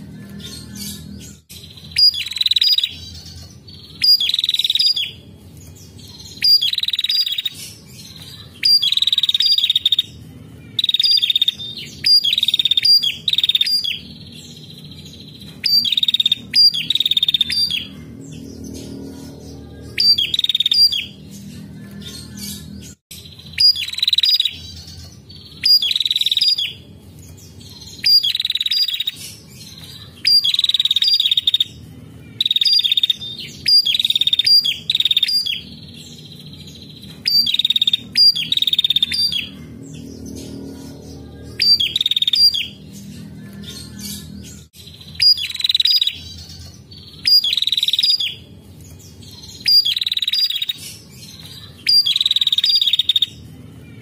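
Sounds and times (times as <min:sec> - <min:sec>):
bird calling with buzzy trill: 0:00.0 - 0:54.0.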